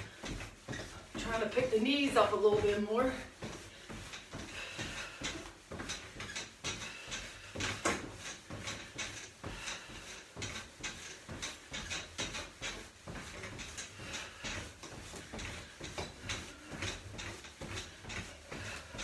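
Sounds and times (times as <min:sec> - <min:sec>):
trampoline squeaking and creaking: 0:00.0 - 0:19.0.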